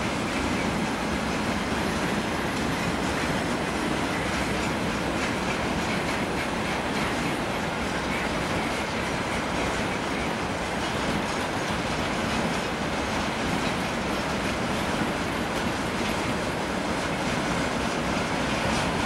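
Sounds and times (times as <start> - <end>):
freight train wheels clattering: 0.0 - 19.0.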